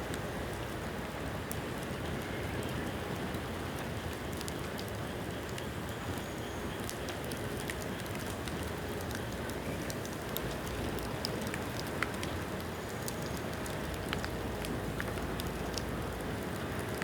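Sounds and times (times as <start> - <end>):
fire crackles and pops: 0.0 - 17.0.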